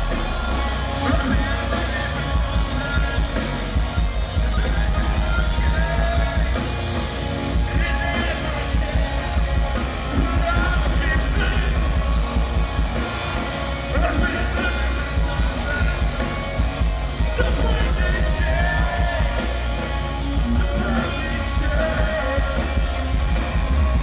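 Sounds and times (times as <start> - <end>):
bass guitar: 0.0 - 24.0
distorted electric guitars: 0.0 - 24.0
drums: 0.0 - 24.0.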